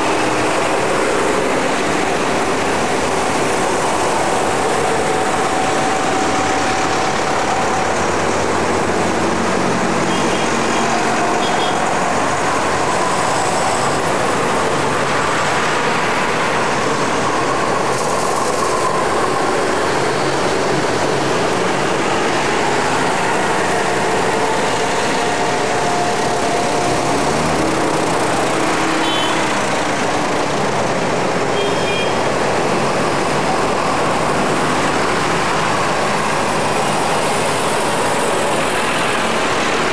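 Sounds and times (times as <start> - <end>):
tractor diesel engines running: 0.0 - 39.9.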